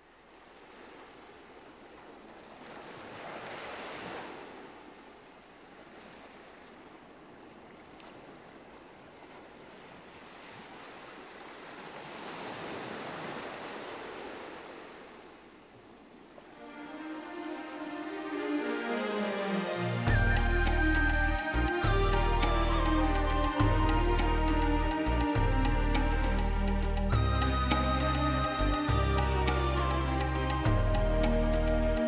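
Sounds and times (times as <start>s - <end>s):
ocean surf: 0.0s - 32.0s.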